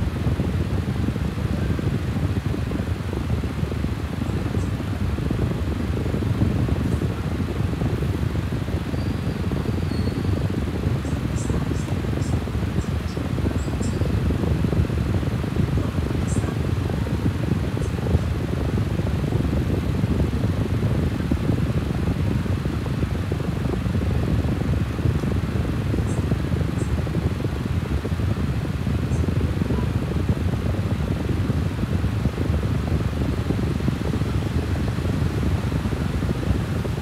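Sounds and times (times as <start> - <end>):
low rumbling background noise: 0.0 - 37.0.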